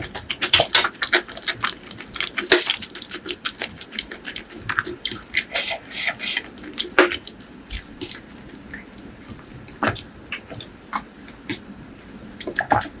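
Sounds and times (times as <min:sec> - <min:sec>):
person chewing with wet smacks: 0:00.0 - 0:11.7, 0:12.4 - 0:13.0.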